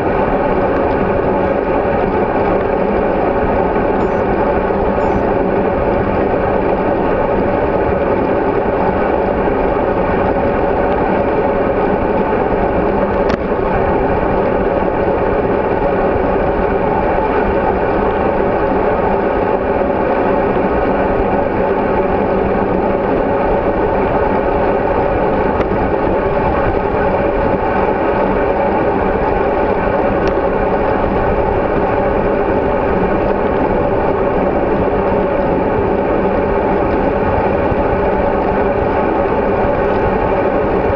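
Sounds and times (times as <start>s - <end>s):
muffled wind: 0.0s - 40.9s
road rumble: 0.0s - 40.9s.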